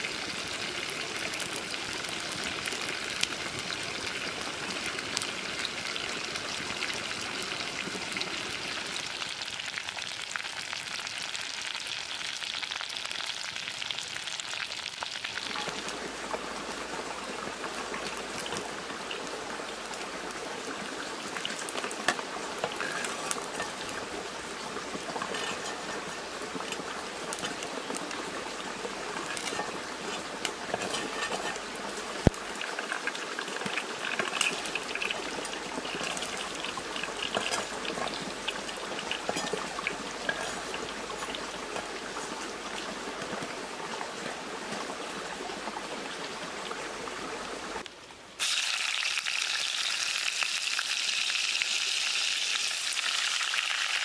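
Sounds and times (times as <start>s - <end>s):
frying in hot oil sizzling: 0.0s - 54.0s.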